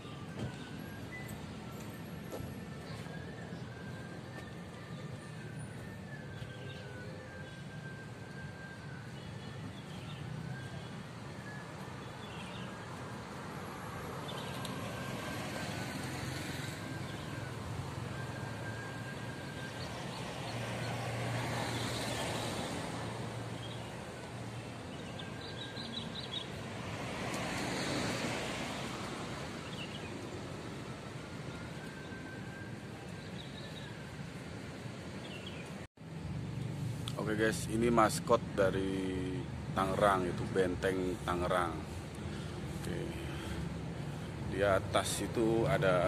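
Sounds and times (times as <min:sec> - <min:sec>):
road traffic passing: 0:00.0 - 0:46.0.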